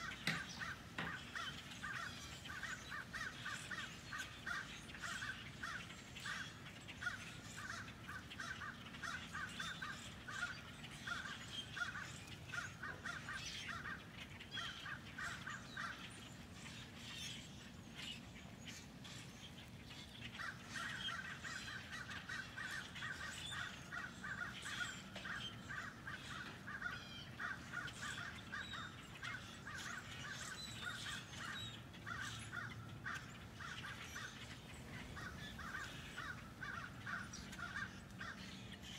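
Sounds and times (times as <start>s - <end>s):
flock of blackbirds chattering: 0.0s - 38.9s.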